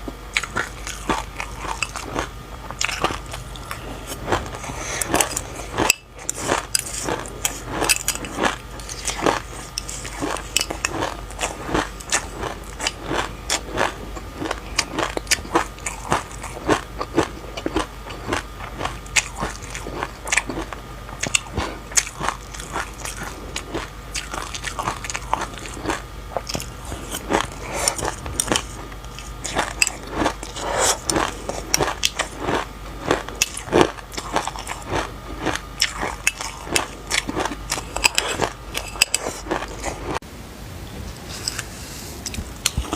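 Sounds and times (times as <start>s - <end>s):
crunchy chewing: 0.0s - 40.2s, 41.3s - 42.9s.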